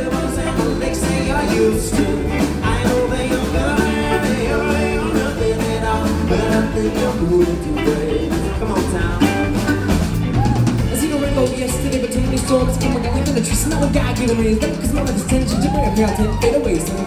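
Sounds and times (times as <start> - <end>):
acoustic guitar: 0.0 - 17.0
drum kit: 0.0 - 17.0
electric bass: 0.0 - 17.0.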